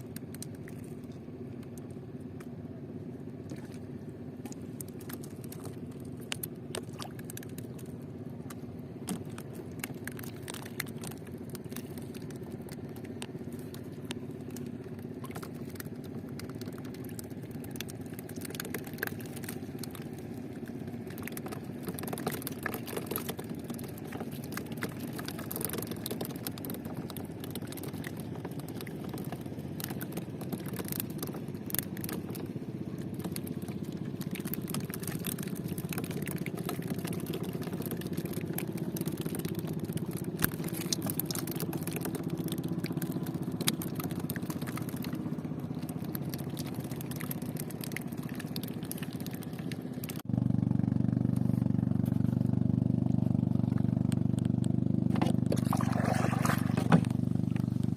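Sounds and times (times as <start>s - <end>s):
small engine running: 7.5s - 57.9s.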